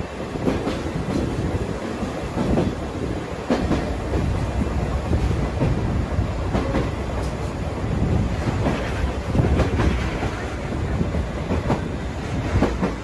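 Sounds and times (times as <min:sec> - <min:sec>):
train wheels rumbling on rails: 0:00.0 - 0:13.0
wind buffeting microphone: 0:00.0 - 0:13.0.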